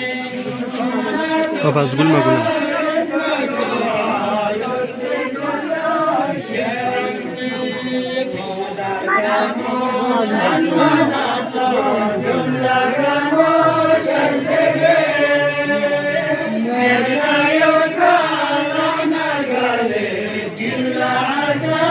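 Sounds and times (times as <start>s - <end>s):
religious chanting: 0.0s - 21.9s.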